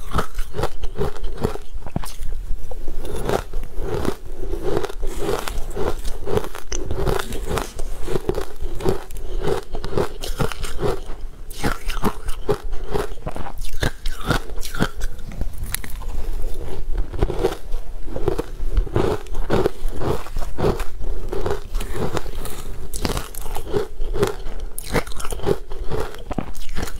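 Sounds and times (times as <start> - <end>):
crushed ice being chewed: 0.0 - 2.4, 3.0 - 26.9.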